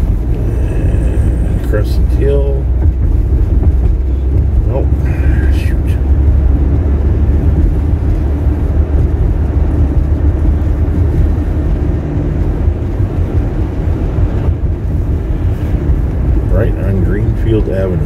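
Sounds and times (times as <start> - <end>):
car interior road noise: 0.0 - 18.0.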